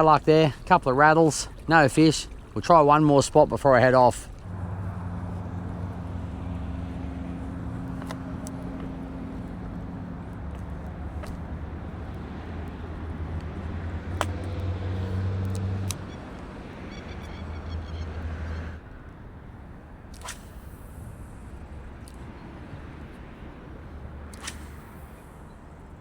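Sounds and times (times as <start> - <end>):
car engine and road noise: 3.4 - 26.0.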